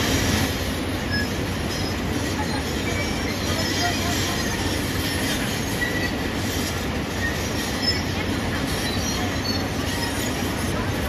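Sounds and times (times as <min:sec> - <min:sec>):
short high squeaks: 0:01.0 - 0:10.6.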